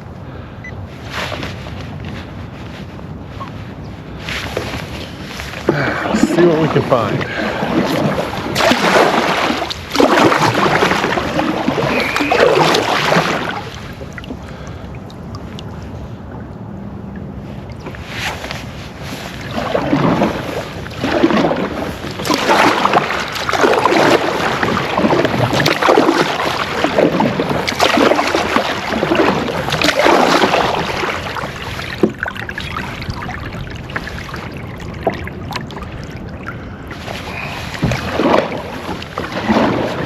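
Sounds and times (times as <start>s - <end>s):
paddle strokes splashing water: 0.0s - 40.0s
wind rumble on microphone: 0.0s - 40.0s.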